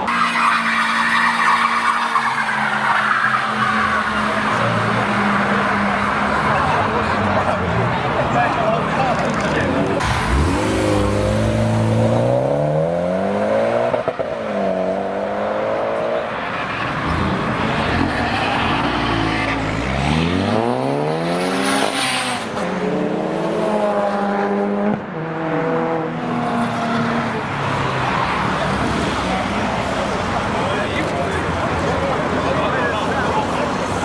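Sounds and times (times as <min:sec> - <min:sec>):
car engines accelerating hard: 0:00.0 - 0:34.0.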